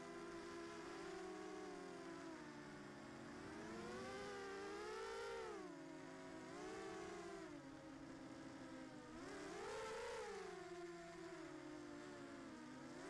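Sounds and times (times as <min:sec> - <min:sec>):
drone motors whining: 0:00.4 - 0:13.0.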